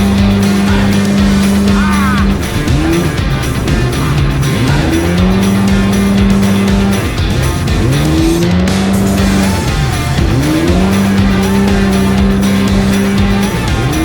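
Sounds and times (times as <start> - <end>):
background music: 0.0 - 14.0
jet ski engine revving: 0.0 - 14.0.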